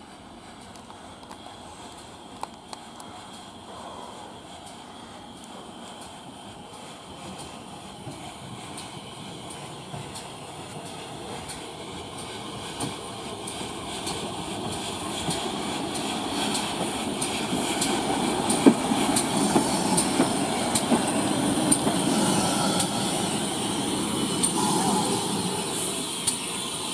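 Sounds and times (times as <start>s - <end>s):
train rumble: 0.0s - 26.9s
train wheels clicking over joints: 0.0s - 26.9s.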